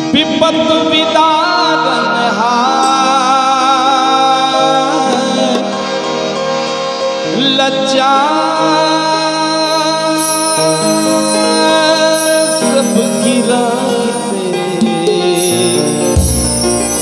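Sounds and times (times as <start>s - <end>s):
man singing: 0.0s - 6.0s, 7.3s - 16.1s
harmonium and keyboard: 0.0s - 17.0s.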